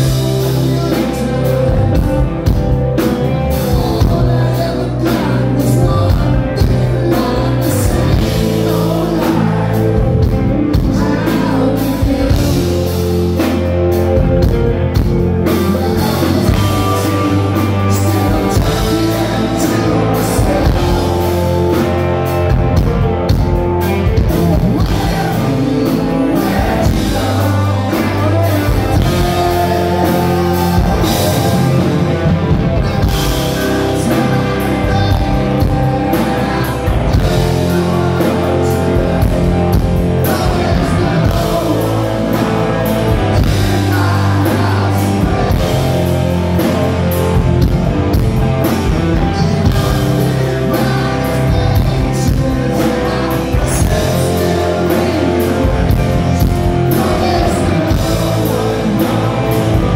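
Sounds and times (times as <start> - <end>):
bass guitar: 0.0 - 59.9
drums: 0.0 - 59.9
electric guitars: 0.0 - 59.9
person singing: 0.0 - 59.9.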